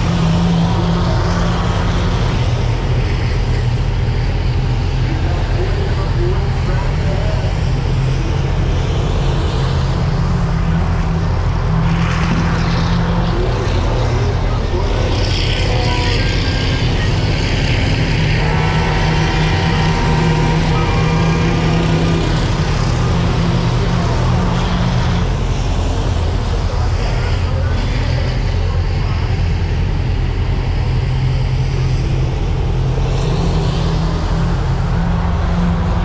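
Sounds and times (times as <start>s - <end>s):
bus engines racing: 0.0s - 36.0s.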